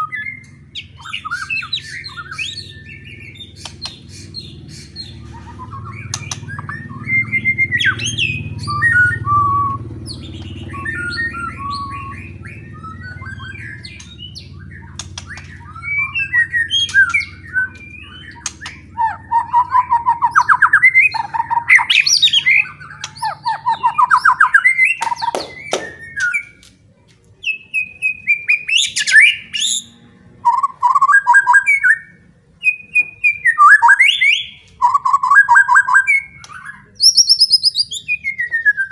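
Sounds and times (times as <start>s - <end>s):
bird singing trills and whistles: 0.0s - 26.6s, 27.4s - 38.9s.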